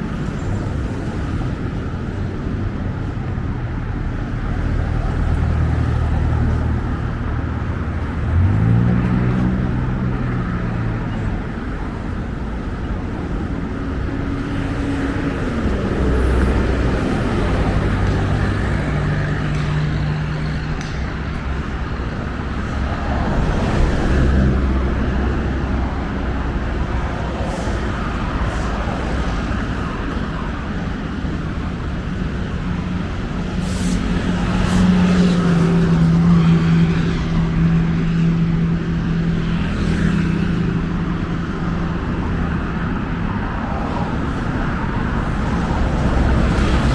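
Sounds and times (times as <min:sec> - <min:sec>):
heavy engine humming: 0:00.0 - 0:46.9
road traffic passing: 0:00.0 - 0:46.9.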